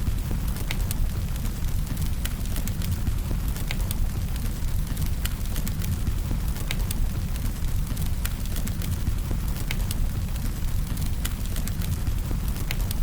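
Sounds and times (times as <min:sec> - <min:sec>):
firewood crackling and popping: 0:00.0 - 0:13.0
wood fire rumbling: 0:00.0 - 0:13.0.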